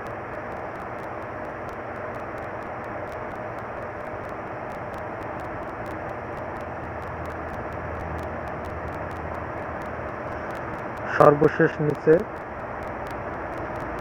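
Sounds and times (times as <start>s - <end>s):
faint low hum: 0.0s - 14.0s
faint regular ticks: 0.0s - 14.0s
thin steady tone: 0.0s - 14.0s.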